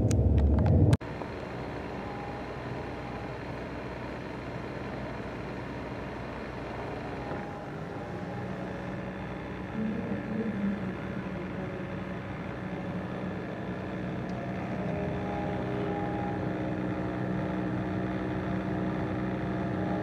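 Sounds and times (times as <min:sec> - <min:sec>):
low droning hum: 0:00.0 - 0:20.0.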